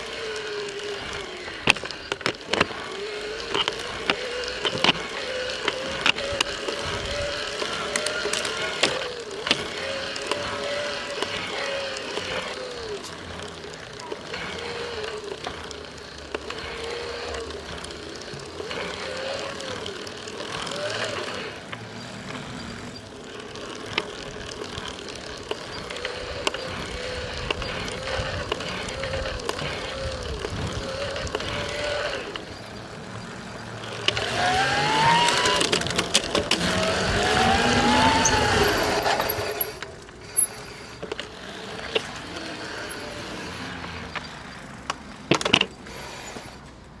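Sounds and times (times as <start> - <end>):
sharp clicks: 0.0 - 42.9
electric motor whine: 0.0 - 47.0.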